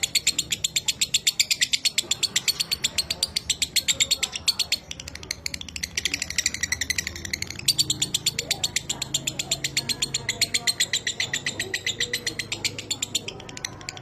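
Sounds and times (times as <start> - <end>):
lovebird rattling chatter: 0.0 - 14.0.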